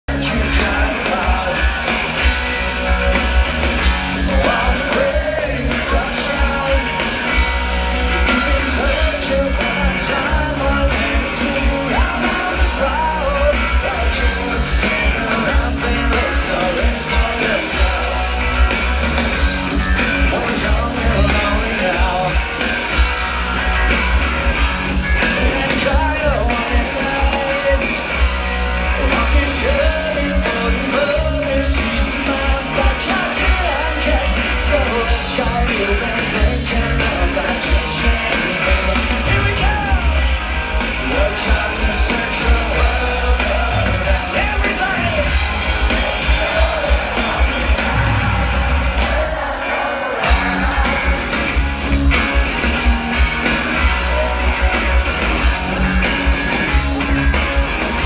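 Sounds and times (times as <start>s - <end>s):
drums with pounding bass beat: 0.0s - 58.0s
electric guitars: 0.0s - 58.0s
lead vocals: 0.0s - 58.0s.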